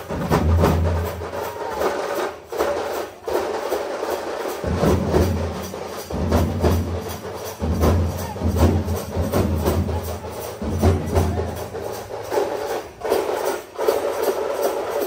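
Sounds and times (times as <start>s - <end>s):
barrel drums beating: 0.0s - 15.0s.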